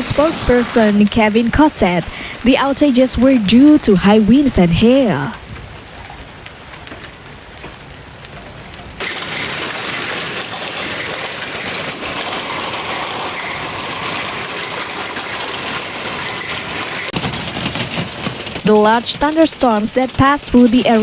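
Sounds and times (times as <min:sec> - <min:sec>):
rain and hail pelting down: 0:00.0 - 0:21.0.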